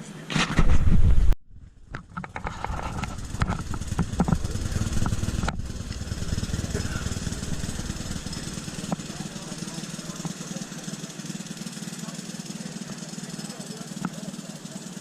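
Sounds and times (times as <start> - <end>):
engine idling: 1.7 - 15.0.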